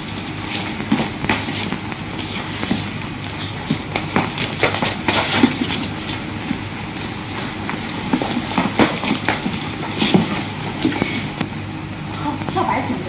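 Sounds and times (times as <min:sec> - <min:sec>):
shoes tapping on floor: 0:00.0 - 0:11.6, 0:12.2 - 0:13.0
film soundtrack hiss: 0:00.0 - 0:13.0.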